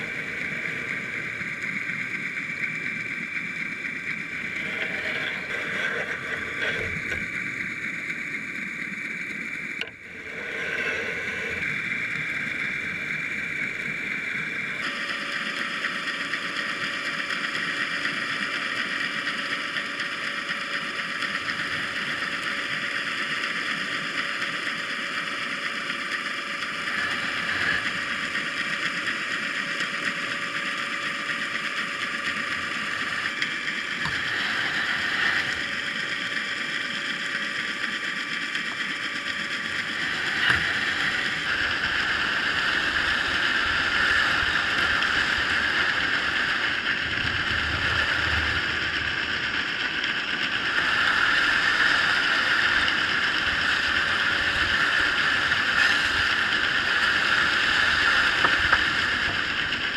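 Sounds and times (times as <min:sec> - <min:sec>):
mechanical hum and hiss: 0:00.0 - 0:59.9
whining tones: 0:00.0 - 0:59.9.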